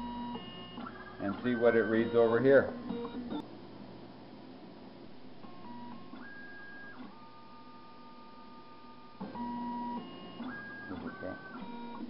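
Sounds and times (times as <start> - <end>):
machine motors humming: 0.0 - 3.5, 5.4 - 12.0.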